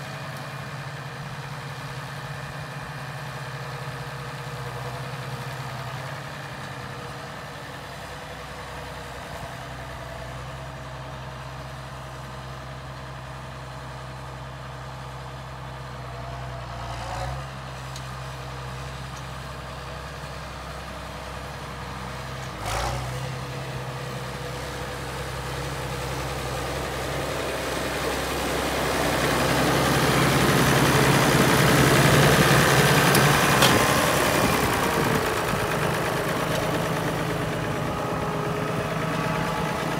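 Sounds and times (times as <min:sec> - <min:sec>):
tractor engine running: 0:00.0 - 0:16.8, 0:17.4 - 0:39.9.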